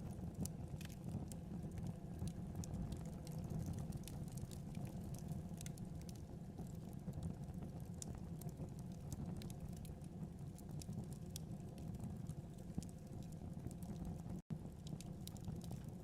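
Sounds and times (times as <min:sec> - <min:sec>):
fire burning with crackles: 0:00.0 - 0:16.0.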